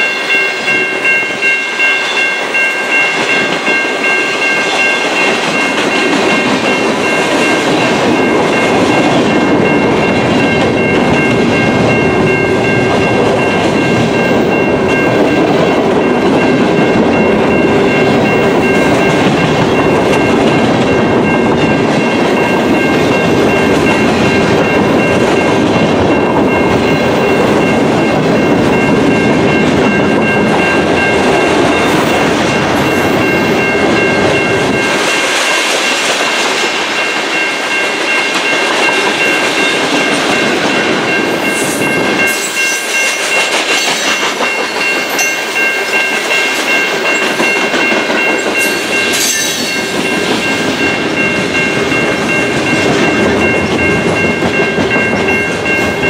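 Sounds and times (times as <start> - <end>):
train rumbling and rattling past: 0.0 - 56.0.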